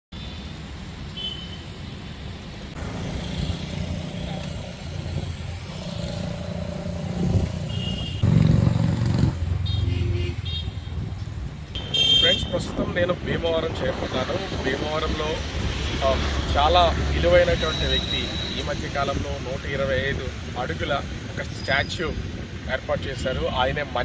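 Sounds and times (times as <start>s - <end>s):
vehicles passing: 0.2s - 24.0s.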